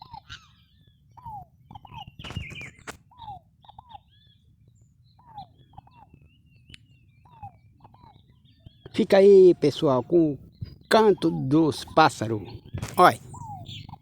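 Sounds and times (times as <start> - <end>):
birds chirping and twittering: 0.0 - 14.0.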